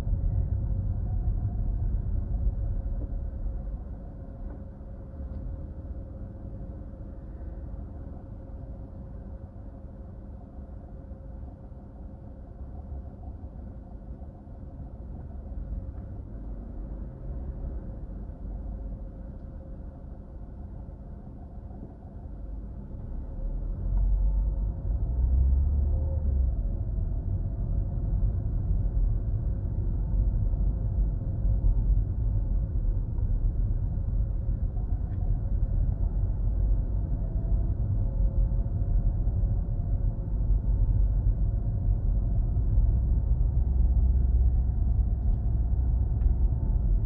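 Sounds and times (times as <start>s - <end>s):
car engine and road noise: 0.0s - 47.0s
faint steady hum: 0.0s - 47.0s.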